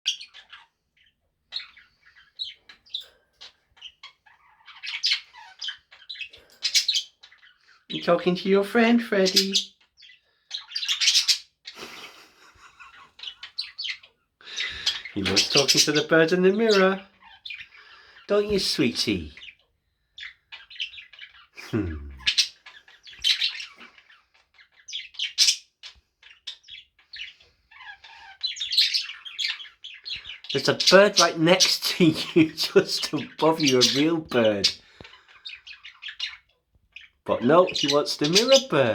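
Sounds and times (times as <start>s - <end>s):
budgerigar chattering and warbling: 0.1s - 19.6s, 20.2s - 38.9s.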